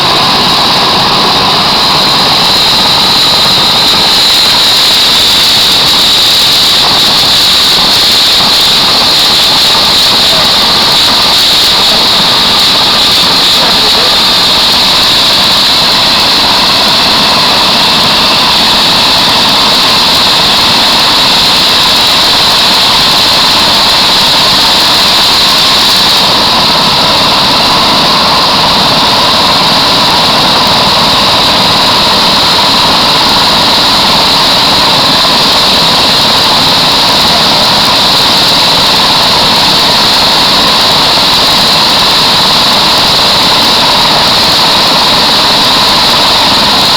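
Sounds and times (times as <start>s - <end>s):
helicopter engine and rotor: 0.0s - 46.9s
high steady whine: 0.0s - 46.9s.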